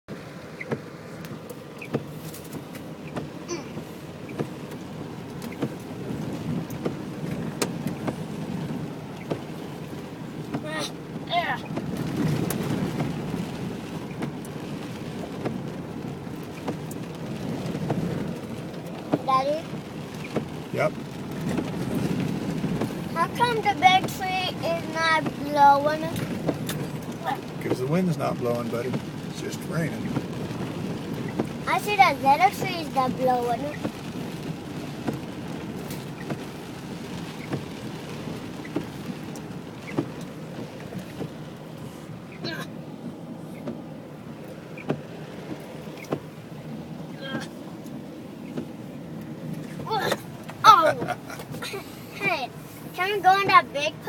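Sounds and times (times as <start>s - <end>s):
steady rain: 0.1s - 54.0s.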